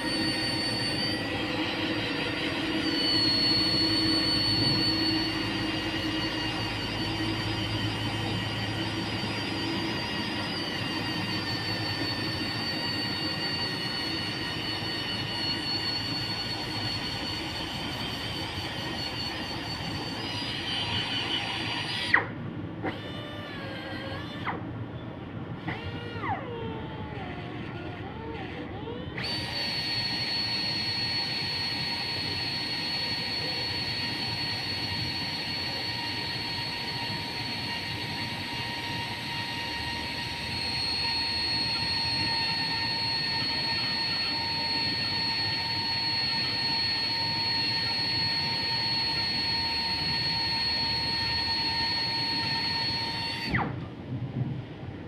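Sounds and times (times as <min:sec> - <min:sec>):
rotary grinder whining: 0:00.0 - 0:24.7, 0:25.6 - 0:53.8.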